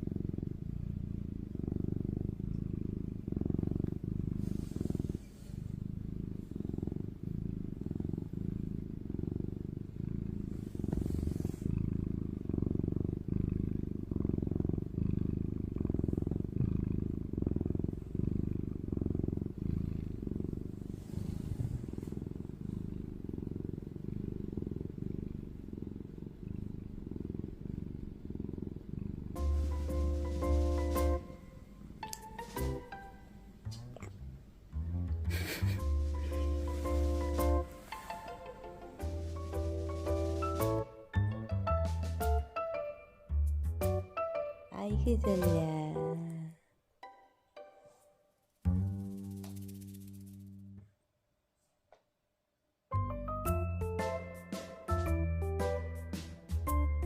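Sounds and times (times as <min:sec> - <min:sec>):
cat purring: 0:00.0 - 0:46.8, 0:47.9 - 0:51.0, 0:52.9 - 0:57.0.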